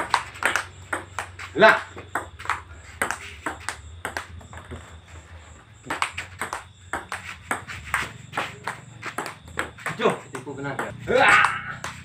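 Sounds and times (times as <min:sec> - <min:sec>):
ping pong ball clicking off paddles: 0:00.0 - 0:05.0, 0:05.8 - 0:12.0.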